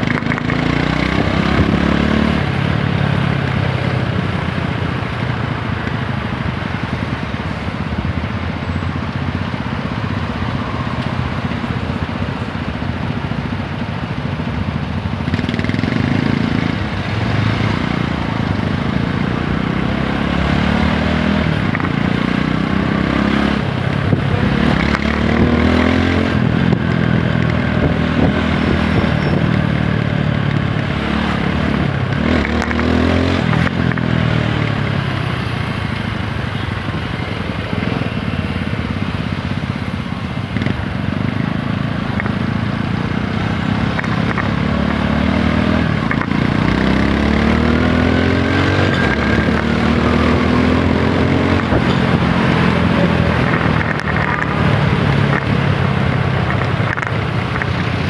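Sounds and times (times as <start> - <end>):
motorcycle engine revving: 0.0 - 6.6, 9.2 - 58.0.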